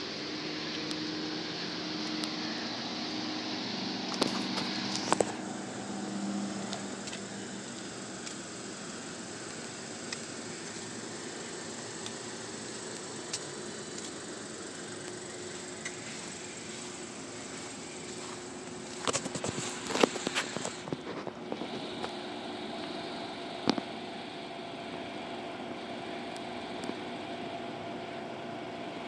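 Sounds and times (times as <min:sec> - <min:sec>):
vehicle hum and hiss: 0:00.0 - 0:29.0.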